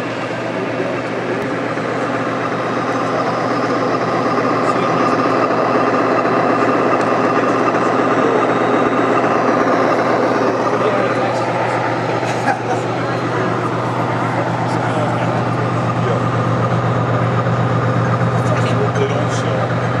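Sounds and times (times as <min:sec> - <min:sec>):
model train diesel engine sound: 0:00.0 - 0:20.0.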